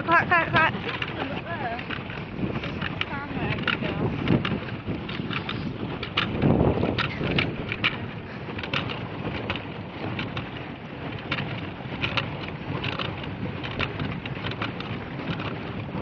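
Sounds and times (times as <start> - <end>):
paddle wheel splashing water: 0.0 - 16.0.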